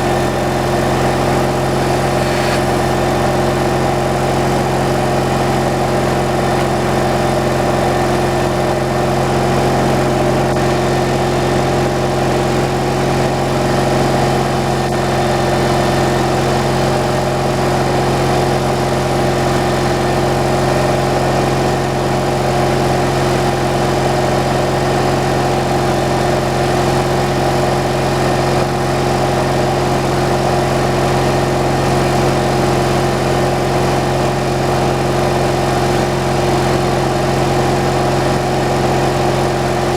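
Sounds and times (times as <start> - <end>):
motor humming steadily: 0.0 - 39.9.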